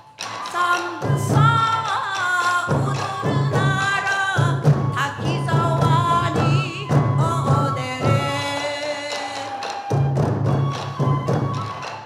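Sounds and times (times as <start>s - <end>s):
pulsing drums: 0.0s - 12.0s.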